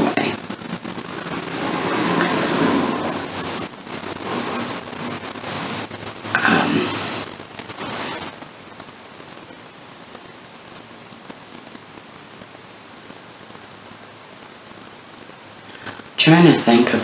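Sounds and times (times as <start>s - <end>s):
faint hiss with fine crackling: 0.0s - 17.0s.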